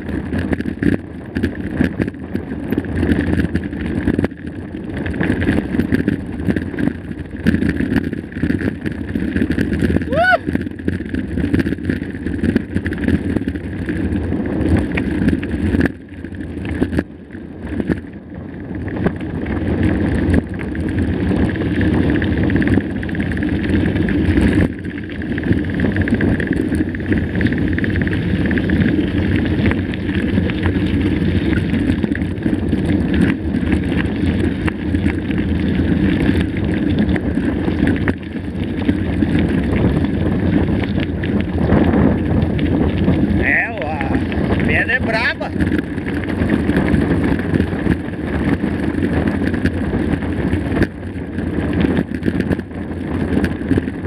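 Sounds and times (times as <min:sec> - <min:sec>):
bike rattling over rough ground: 0:00.0 - 0:54.0
wind rushing on microphone: 0:00.0 - 0:54.0.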